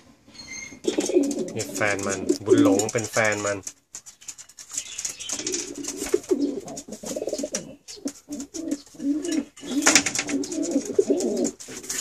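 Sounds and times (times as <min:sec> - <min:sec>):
pigeons cooing: 0:00.7 - 0:03.1, 0:04.7 - 0:12.0.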